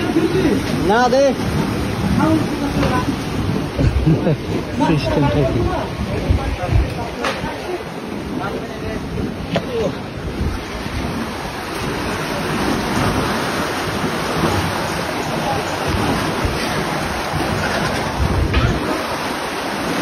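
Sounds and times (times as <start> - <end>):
water rushing through weir: 0.0 - 20.0.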